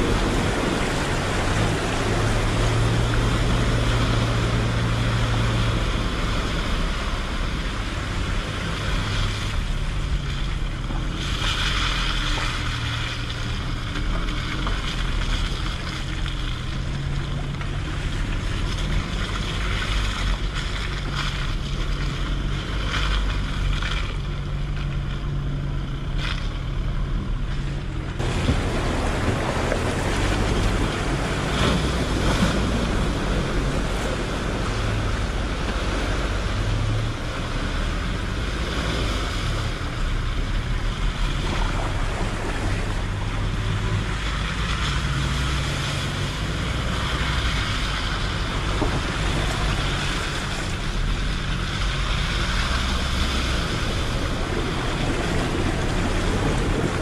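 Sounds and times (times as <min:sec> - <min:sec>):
diesel engine running under load: 0:00.0 - 0:57.0
water splashing under tyres: 0:00.0 - 0:57.0.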